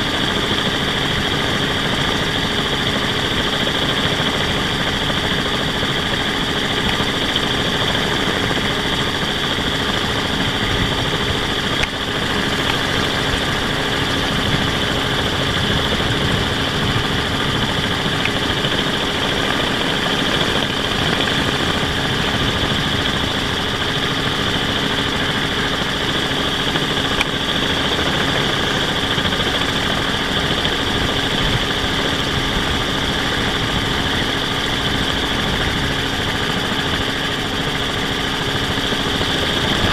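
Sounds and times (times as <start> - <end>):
drone rotors humming: 0.0 - 39.9.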